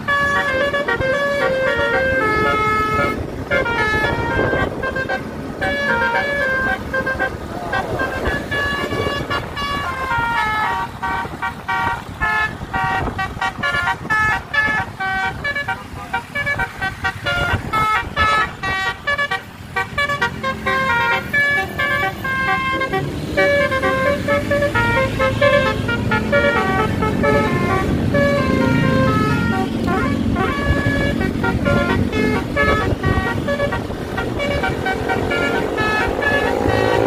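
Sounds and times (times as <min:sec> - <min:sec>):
horn playing a quick melody: 0:00.0 - 0:37.0
road and engine noise: 0:00.0 - 0:37.0.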